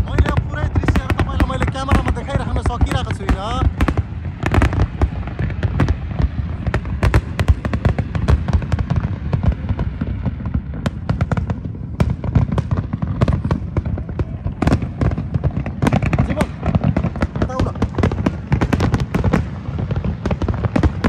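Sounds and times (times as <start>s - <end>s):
low rumble of booms: 0.0s - 21.0s.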